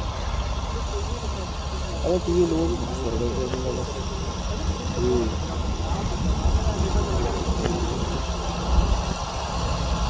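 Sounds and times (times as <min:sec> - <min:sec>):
engine rumbling: 0:00.0 - 0:10.0
faint indistinct voices: 0:00.0 - 0:10.0.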